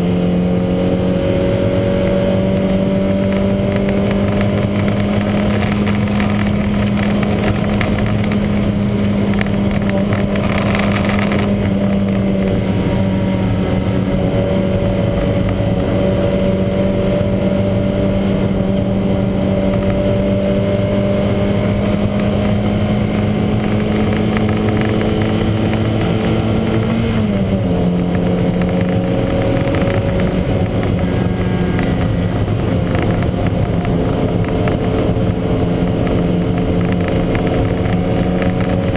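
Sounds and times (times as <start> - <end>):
race car engine running hard: 0.0 - 38.9.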